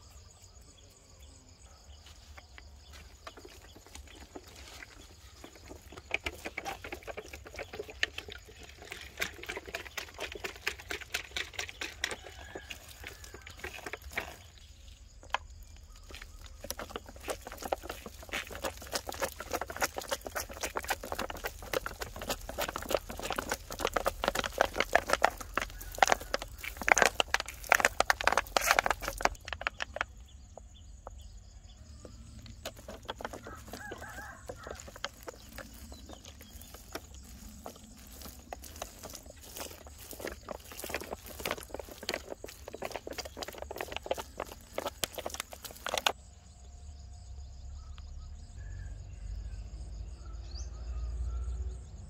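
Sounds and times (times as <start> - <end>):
crackling and scratching: 1.6 - 46.2.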